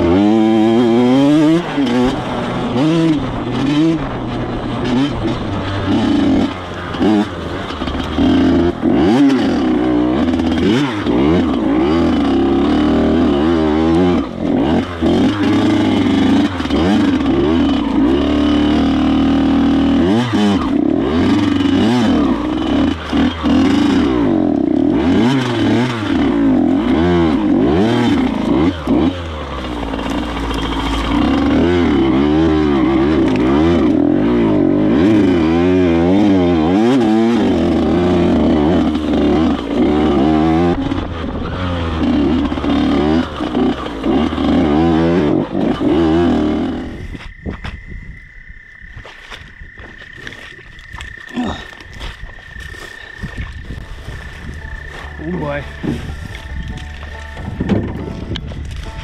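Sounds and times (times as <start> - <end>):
dirt bike engine revving: 0.0 - 47.3, 49.2 - 59.0.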